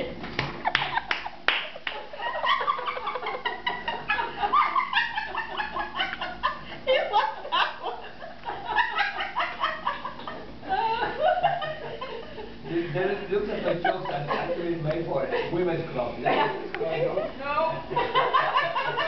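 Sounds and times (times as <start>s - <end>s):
people laughing: 0.6s - 19.0s.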